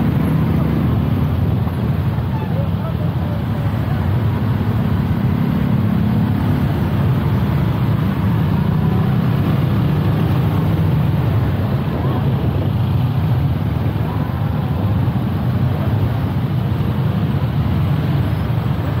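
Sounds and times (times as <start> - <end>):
motorcycle engines humming at low revs: 0.0 - 19.0.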